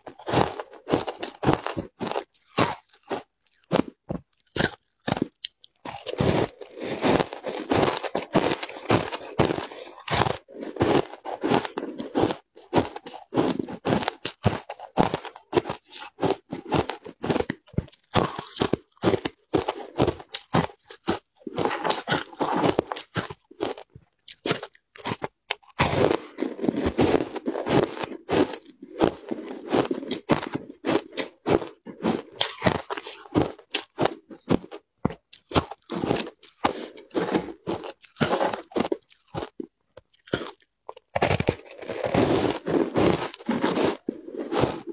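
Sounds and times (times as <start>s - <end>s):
person crunching shaved ice: 0.0s - 44.9s.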